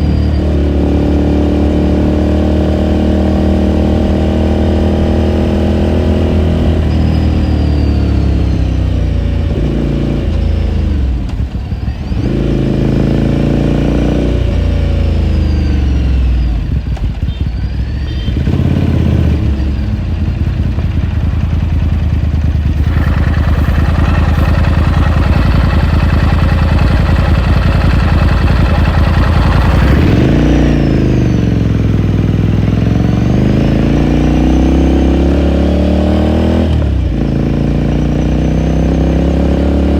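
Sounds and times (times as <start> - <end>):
motorcycle engine revving and cruising: 0.0 - 39.9.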